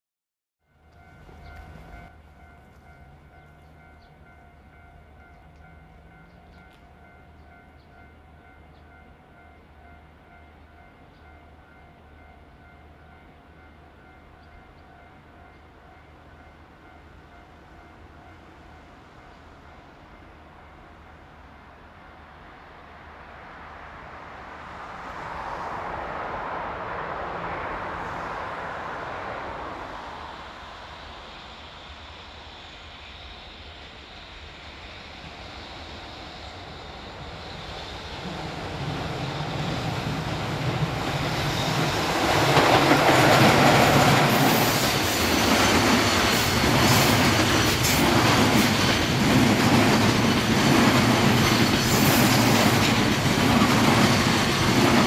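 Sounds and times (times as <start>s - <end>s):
electric locomotive passing: 0.6s - 55.0s.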